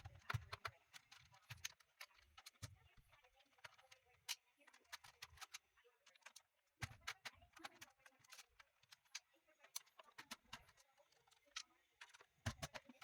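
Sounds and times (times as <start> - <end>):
screwdriver clicks and taps on plastic: 0.0 - 13.0.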